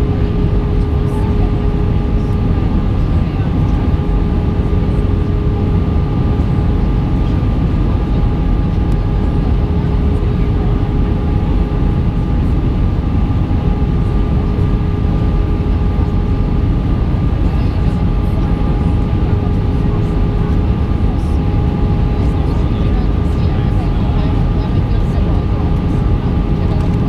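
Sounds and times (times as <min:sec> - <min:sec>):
airplane cabin airflow and engine rush: 0:00.0 - 0:27.0.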